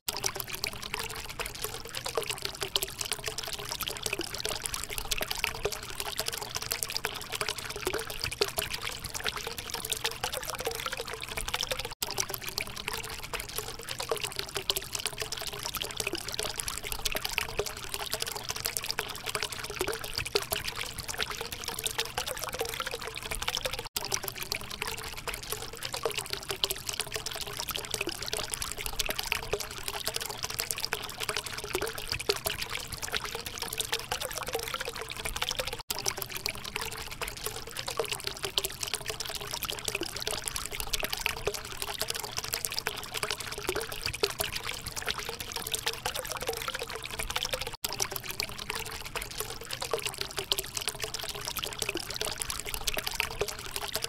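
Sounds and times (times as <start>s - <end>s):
fountain water trickling into basin: 0.0s - 54.0s.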